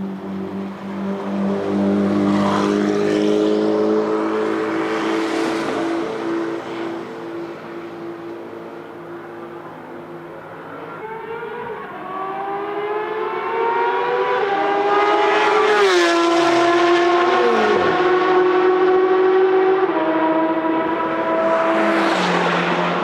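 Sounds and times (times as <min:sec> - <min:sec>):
sports car accelerating past: 0:00.2 - 0:09.5, 0:10.2 - 0:23.0.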